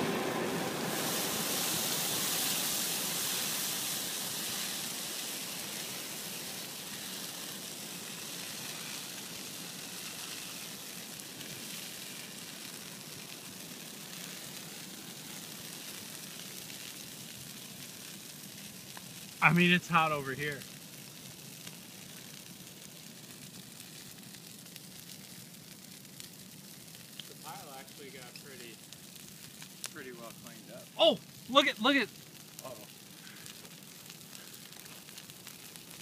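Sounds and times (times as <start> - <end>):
bonfire flames hissing: 0.0 - 36.0.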